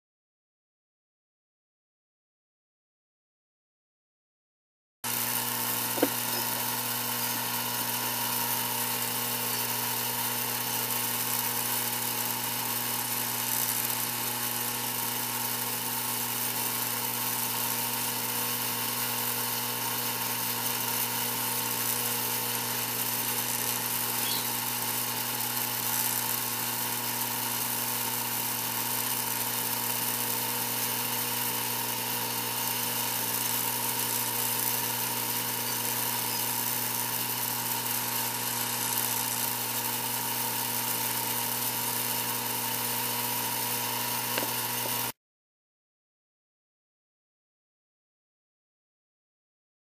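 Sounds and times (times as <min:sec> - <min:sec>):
electric vibrator buzz: 0:05.0 - 0:45.2.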